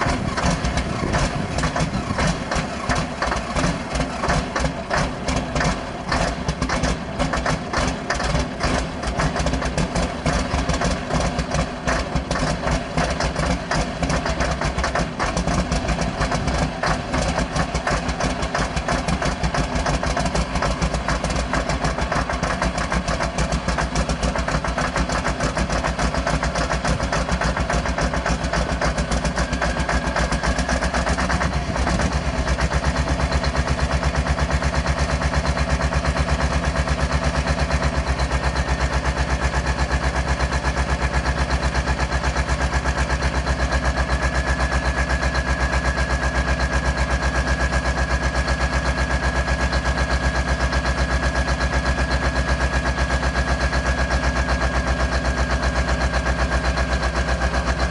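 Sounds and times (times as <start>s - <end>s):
diesel engine idling: 0.0s - 57.9s.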